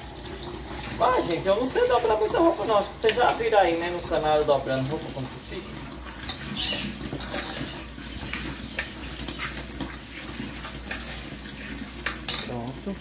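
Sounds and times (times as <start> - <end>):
grains scraping against pot: 0.0 - 12.4
rice grains rustling in a pot: 0.0 - 12.9.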